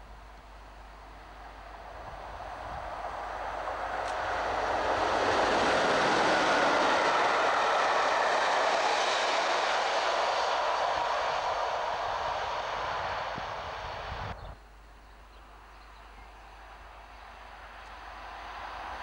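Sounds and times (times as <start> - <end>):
train rushing past on rails: 0.6 - 14.4, 16.5 - 19.0.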